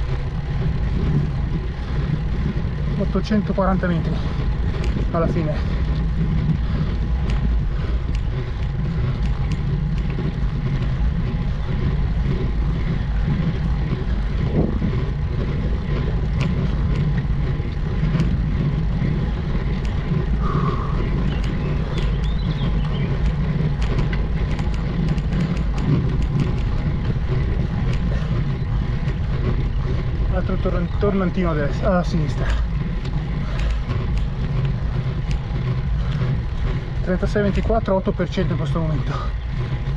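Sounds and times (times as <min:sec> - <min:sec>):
faint bicycle ticks: 0:00.0 - 0:39.9
low rumble and wind noise: 0:00.0 - 0:39.9.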